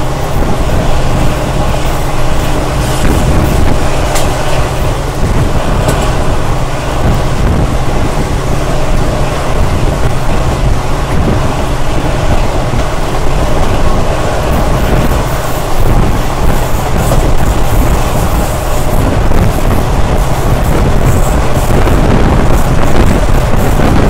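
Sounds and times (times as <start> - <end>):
rushing air: 0.0 - 24.0
train wheels rumbling on track: 0.0 - 24.0.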